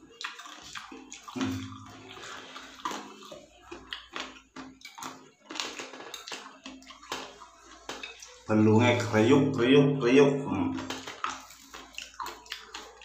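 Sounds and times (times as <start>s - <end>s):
chewing clicks: 0.0s - 8.4s, 10.8s - 13.0s
wet lip-smacking and slurping: 0.0s - 8.5s, 10.8s - 13.0s.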